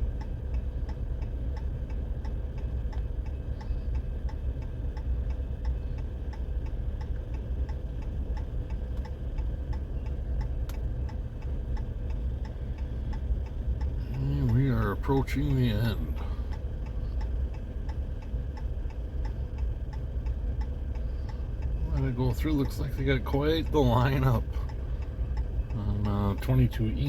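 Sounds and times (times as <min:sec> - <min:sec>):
light even ticking: 0:00.0 - 0:27.0.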